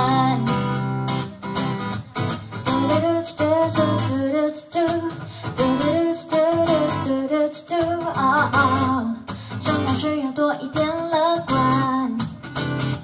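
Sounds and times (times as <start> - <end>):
woman singing: 0.0 - 1.3, 2.5 - 12.5
acoustic guitar strumming: 0.0 - 13.0.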